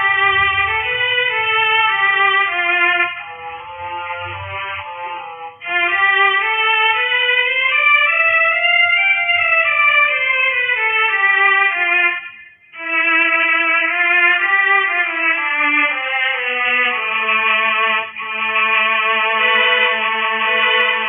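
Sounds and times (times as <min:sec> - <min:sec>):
slow violin melody: 0:00.0 - 0:21.0.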